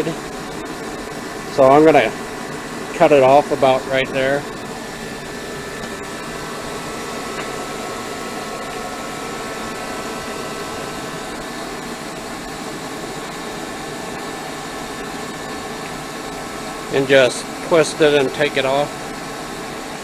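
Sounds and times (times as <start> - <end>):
faint steady tones: 0.0 - 20.0
whirring machine: 0.0 - 20.0.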